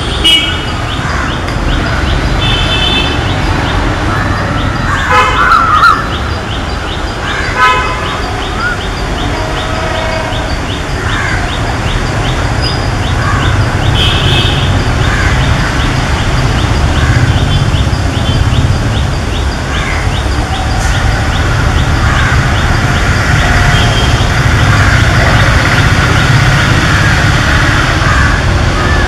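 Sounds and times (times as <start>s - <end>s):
birds chirping: 0.2s - 29.0s.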